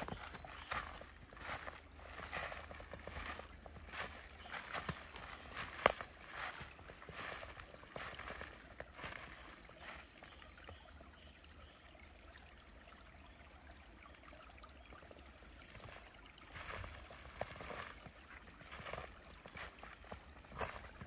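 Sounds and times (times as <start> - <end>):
stream flowing: 0.0 - 21.0.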